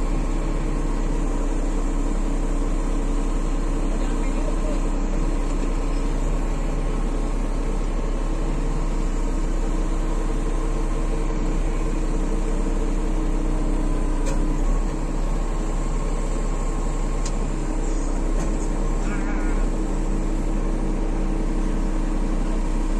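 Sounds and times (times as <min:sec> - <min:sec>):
heavy engine idling: 0:00.0 - 0:22.9.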